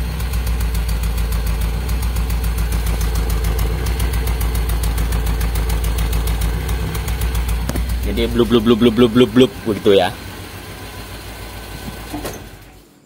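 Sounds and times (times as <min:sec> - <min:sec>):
misfiring engine exhaust puffing: 0:00.0 - 0:13.0.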